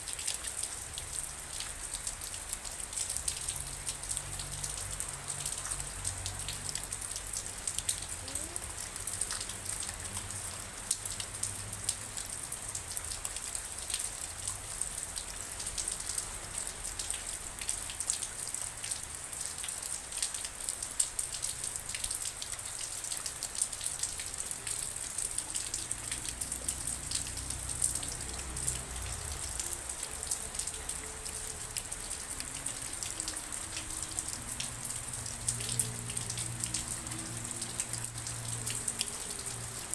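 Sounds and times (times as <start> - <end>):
raindrops ticking close by: 0.0 - 39.9
steady rain hiss: 0.0 - 39.9.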